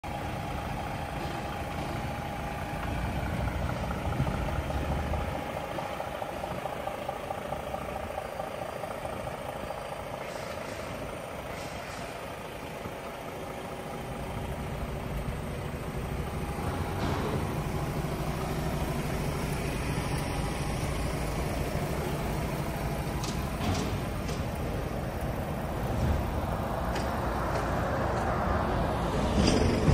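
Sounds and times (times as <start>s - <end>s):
diesel truck engine idling: 0.0s - 29.9s.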